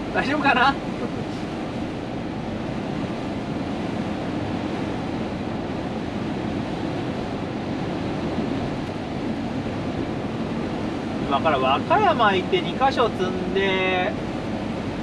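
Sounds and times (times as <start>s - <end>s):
truck cab road and rain noise: 0.0s - 15.0s.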